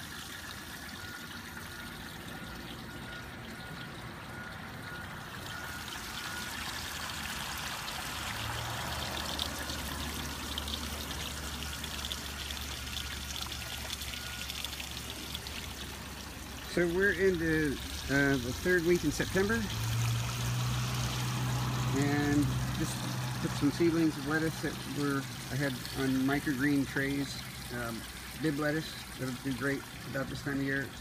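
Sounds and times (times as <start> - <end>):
water pouring into tank: 0.0 - 31.0.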